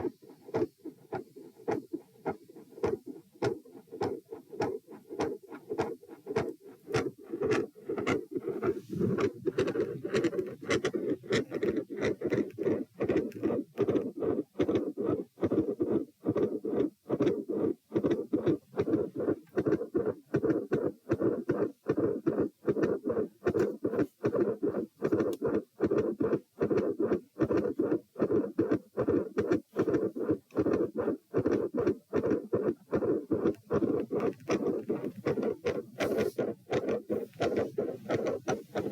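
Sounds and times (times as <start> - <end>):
heartbeat with murmur: 0.0 - 38.9.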